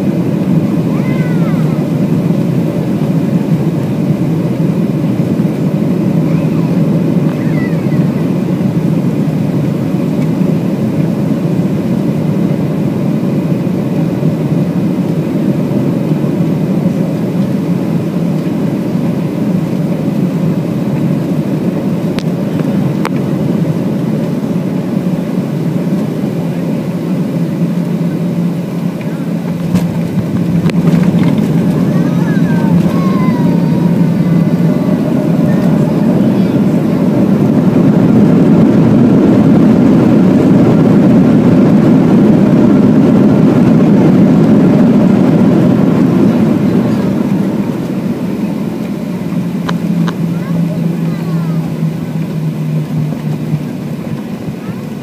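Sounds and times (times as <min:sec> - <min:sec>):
jet engines and airflow rushing: 0:00.0 - 0:55.0
low hum: 0:00.0 - 0:55.0.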